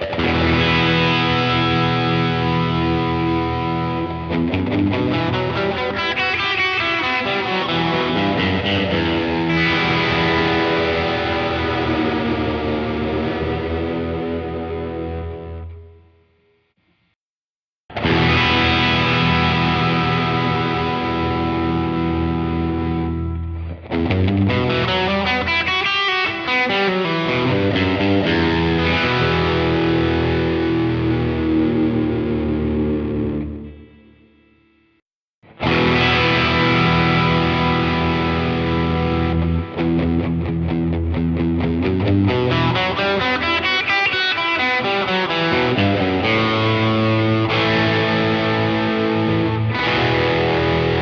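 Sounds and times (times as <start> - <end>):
overdriven electric guitar with echo: 0.0 - 16.7, 17.9 - 51.0.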